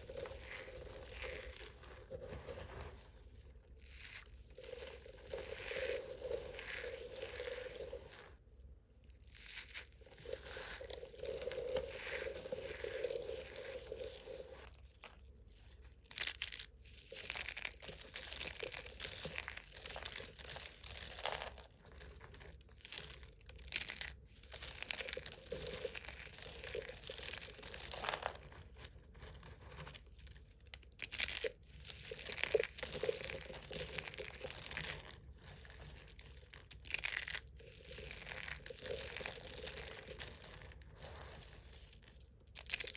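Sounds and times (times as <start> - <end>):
soap being crushed and crumbled: 0.0 - 8.4, 9.0 - 42.9.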